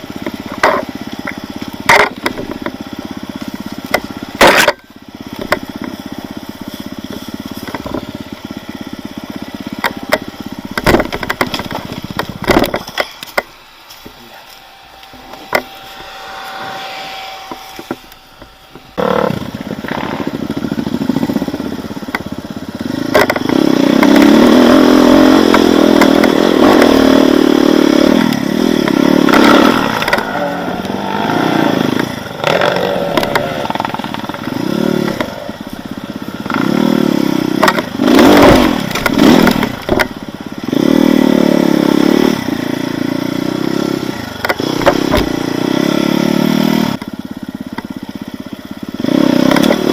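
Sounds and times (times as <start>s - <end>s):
off-road motorcycle engine revving: 0.0s - 49.9s.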